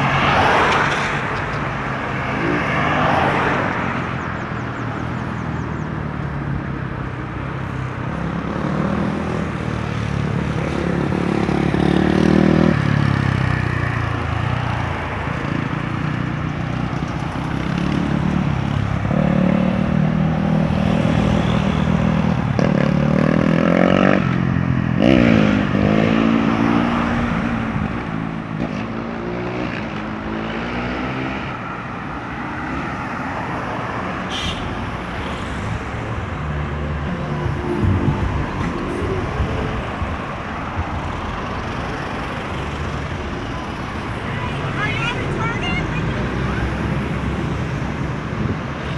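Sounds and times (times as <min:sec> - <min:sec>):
road traffic passing: 0:00.0 - 0:48.9
vehicle engines accelerating: 0:00.0 - 0:48.9.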